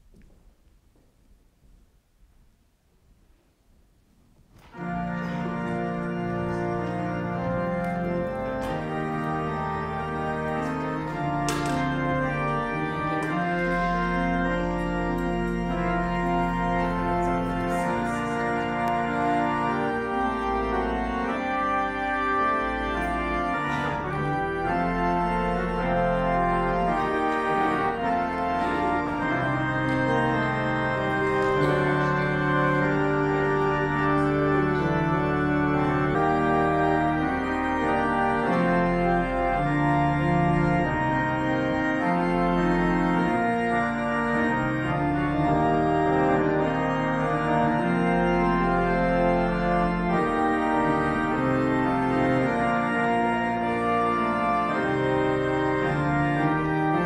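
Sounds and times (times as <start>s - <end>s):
church organ chords: 4.4s - 57.0s.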